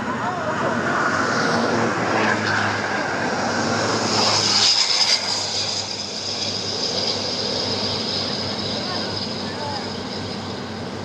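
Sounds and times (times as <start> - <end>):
diesel machinery humming: 0.0 - 11.0
high whine: 0.0 - 11.0.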